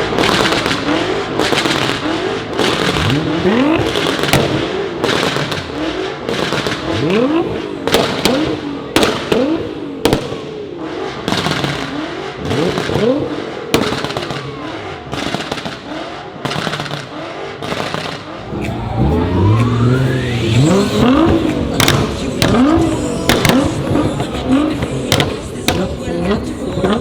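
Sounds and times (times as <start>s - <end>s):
exhaust pops and bangs: 0.0s - 19.8s, 20.5s - 27.0s
sports car engine revving: 0.0s - 27.0s.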